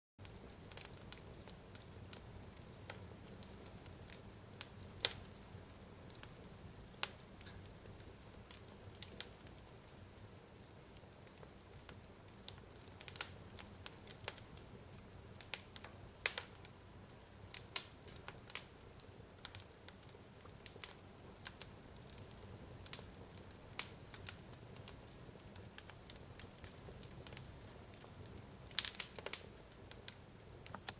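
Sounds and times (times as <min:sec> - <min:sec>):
fire crackling and popping: 0:00.2 - 0:30.9.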